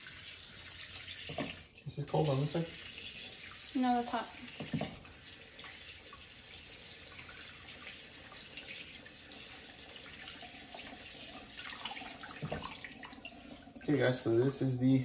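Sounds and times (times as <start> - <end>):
faucet water splashing into sink: 0.0 - 14.2.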